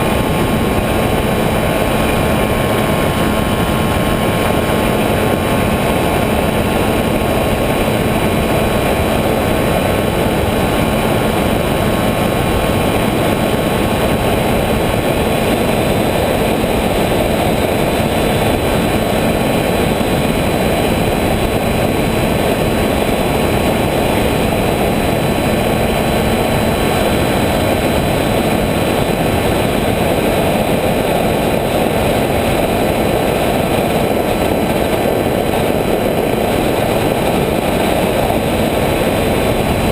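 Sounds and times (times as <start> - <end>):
electric motors and propellers whining: 0.0 - 39.9.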